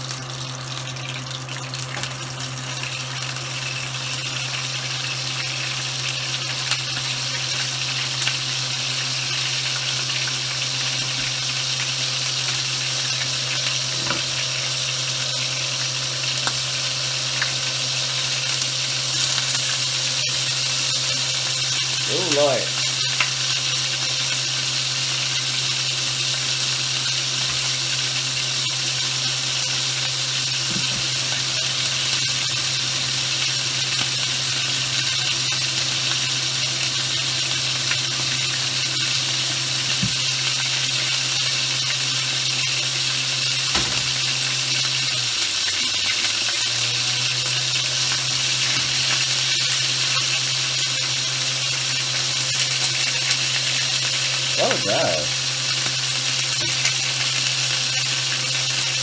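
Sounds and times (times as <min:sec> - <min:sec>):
food sizzling in pan: 0:00.0 - 0:59.0.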